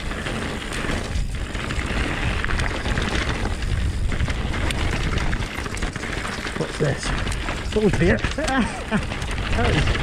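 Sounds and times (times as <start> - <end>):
bike clicks and rattles: 0.0 - 10.0
tyres crunching on dirt: 0.0 - 10.0
wind rumble on microphone: 0.0 - 10.0.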